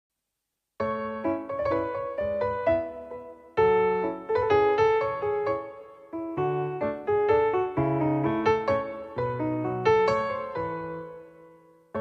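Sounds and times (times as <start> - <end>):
piano music: 0.8 - 12.0.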